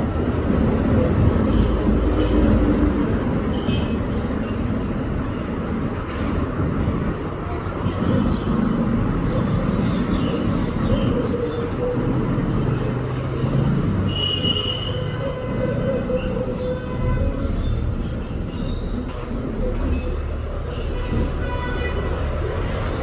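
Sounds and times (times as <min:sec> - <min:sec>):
vehicle rumbling in motion: 0:00.0 - 0:23.0.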